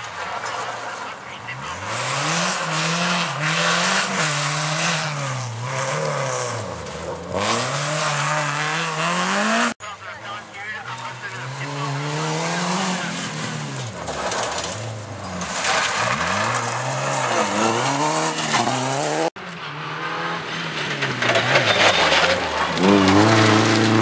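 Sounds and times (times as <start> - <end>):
rally car engine revving: 0.2 - 24.0.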